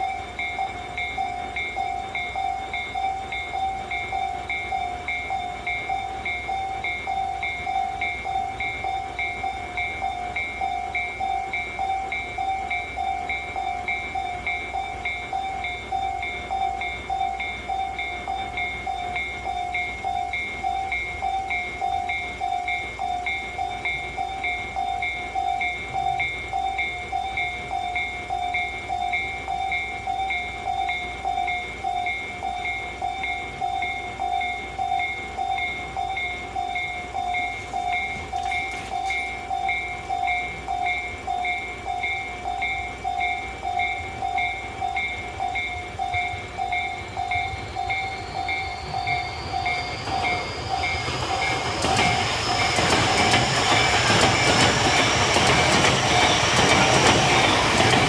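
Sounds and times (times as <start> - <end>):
level crossing bell ringing: 0.0 - 58.0
train whine and rumble: 0.0 - 58.0.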